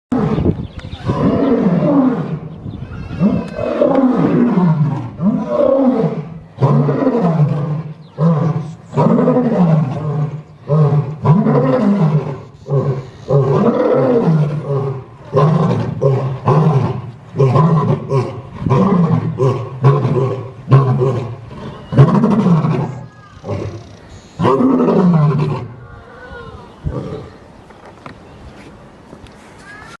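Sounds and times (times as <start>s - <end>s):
lion roaring: 0.1s - 2.5s, 3.1s - 25.8s.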